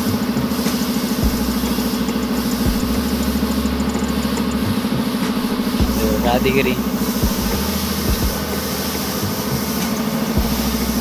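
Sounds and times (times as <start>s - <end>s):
machine throbbing steadily: 0.0s - 11.0s.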